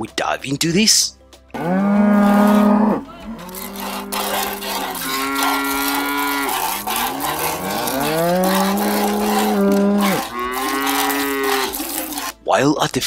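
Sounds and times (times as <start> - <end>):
cows mooing: 1.6 - 12.3.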